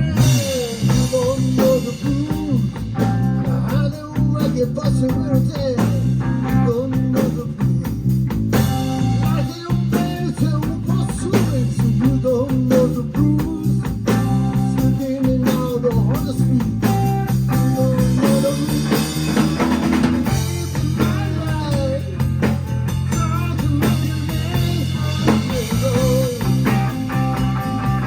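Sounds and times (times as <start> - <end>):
bass guitar: 0.0 - 28.0
blues guitar lead: 0.0 - 28.0
drums: 0.0 - 28.0.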